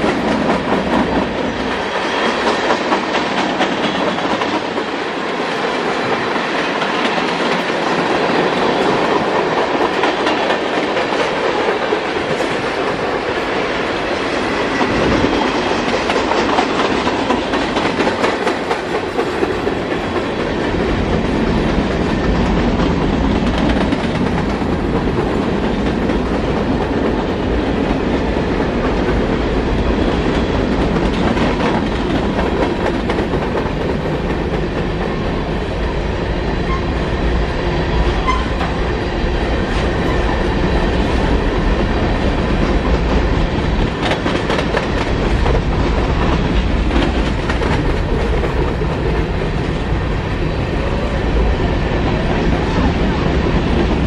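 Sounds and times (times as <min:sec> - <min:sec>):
train wheels rumbling and clacking: 0:00.0 - 0:54.0.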